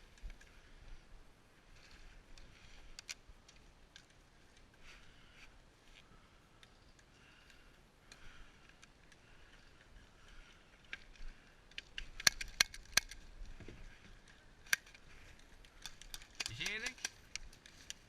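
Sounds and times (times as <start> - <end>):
faint ticks and clicks: 1.7 - 18.0.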